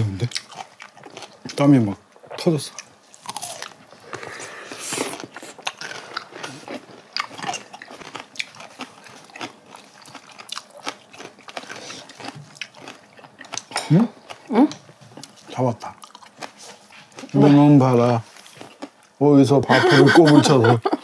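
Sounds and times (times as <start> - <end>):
people chewing and crunching food: 0.0 - 21.0.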